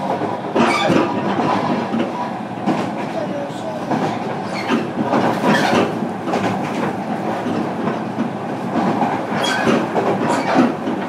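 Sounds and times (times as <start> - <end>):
train wheels rumbling on rail: 0.0 - 11.0
wheels clicking over rail joints: 0.0 - 11.0.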